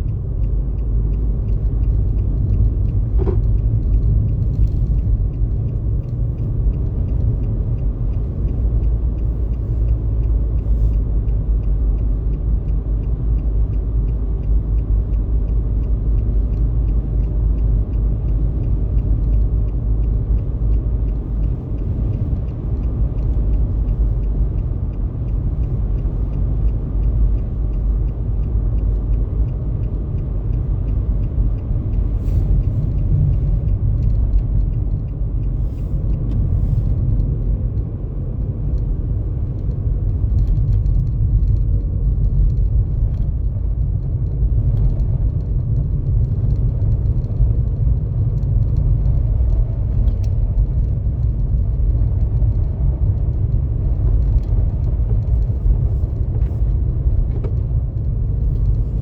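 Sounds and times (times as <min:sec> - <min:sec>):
car rumbling: 0:00.0 - 0:59.0.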